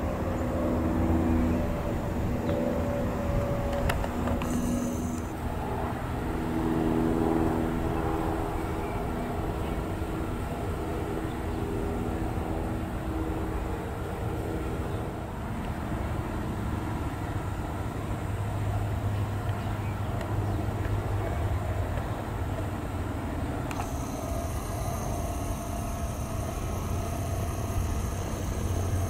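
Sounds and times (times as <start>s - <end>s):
thin steady whine: 0.0s - 18.4s, 22.2s - 29.0s
traffic rumble: 0.0s - 29.0s.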